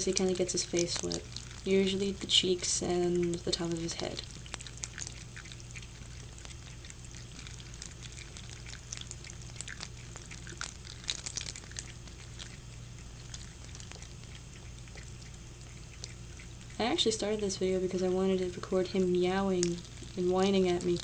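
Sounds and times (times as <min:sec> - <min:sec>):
cat lapping water: 0:00.0 - 0:21.0
steady low hum: 0:00.0 - 0:21.0.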